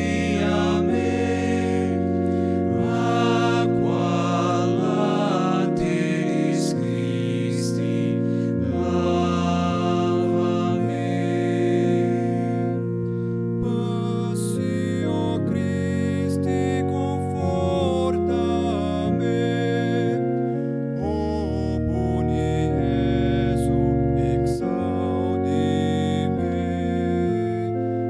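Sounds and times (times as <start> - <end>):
slow sacred keyboard music: 0.0 - 28.0.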